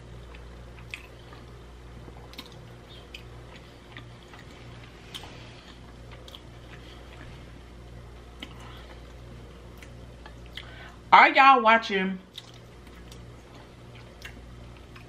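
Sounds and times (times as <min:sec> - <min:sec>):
low steady hum: 0:00.0 - 0:15.0
person chewing: 0:00.2 - 0:07.6, 0:08.2 - 0:10.9, 0:12.3 - 0:15.0.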